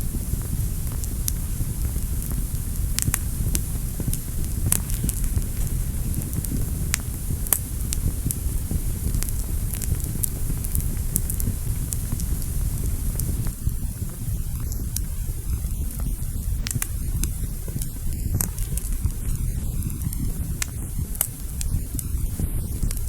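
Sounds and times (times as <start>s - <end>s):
fire flames rumbling: 0.0s - 23.0s
wood fire crackling and popping: 0.0s - 23.0s.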